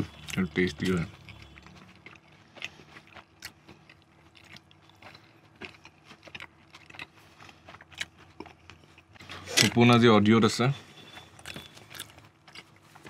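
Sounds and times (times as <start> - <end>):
person chewing: 0.0 - 9.6, 11.0 - 13.0.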